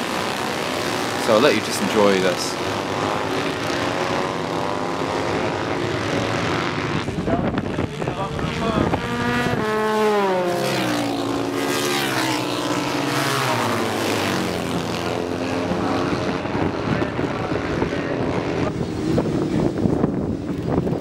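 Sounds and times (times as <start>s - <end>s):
racing motorcycles passing: 0.0s - 21.0s.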